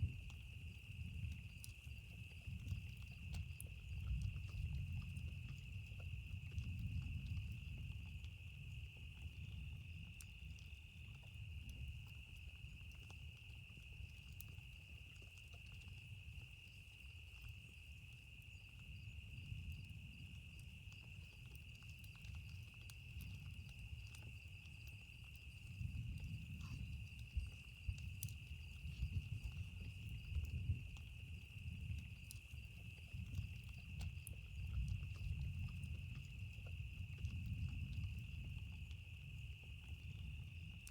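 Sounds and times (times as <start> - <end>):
campfire crackling: 0.0 - 40.9
insect trill: 0.0 - 40.9.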